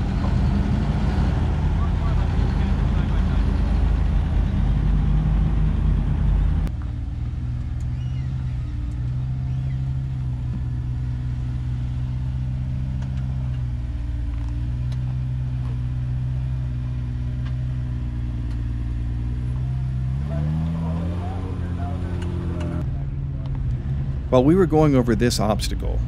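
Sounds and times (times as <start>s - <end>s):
loud rough rumble: 0.0s - 26.0s
off-road vehicle engine at low revs: 0.0s - 26.0s.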